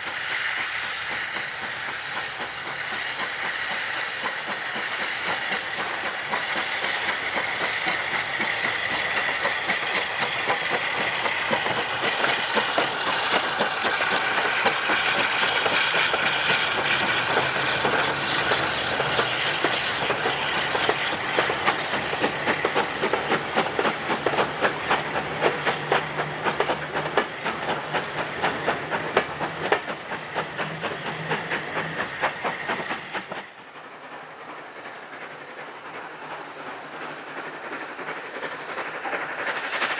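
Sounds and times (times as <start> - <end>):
steam locomotive hissing: 0.0 - 39.9
train wheels clicking over rail joints: 0.0 - 39.9.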